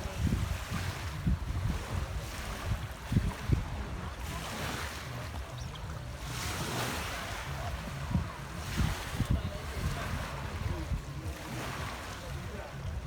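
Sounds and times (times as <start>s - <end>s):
wind bumps on microphone: 0.0s - 13.0s.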